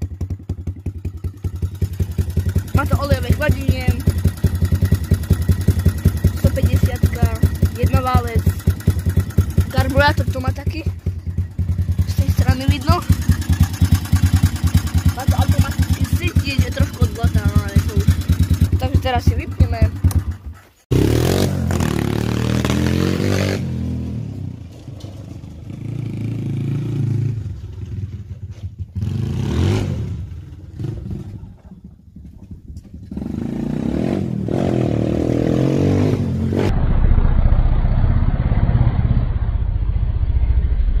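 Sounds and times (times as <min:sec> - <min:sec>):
quad bike engine revving: 0:00.0 - 0:36.8.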